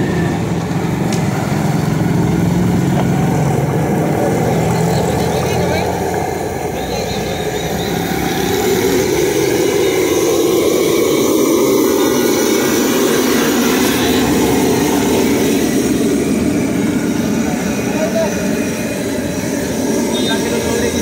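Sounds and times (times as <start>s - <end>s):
burner flame roaring: 0.0s - 21.0s.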